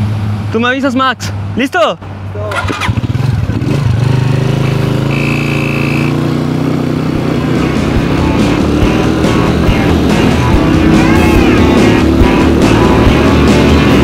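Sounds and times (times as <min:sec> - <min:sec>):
motorcycle engine accelerating: 0:02.4 - 0:14.0.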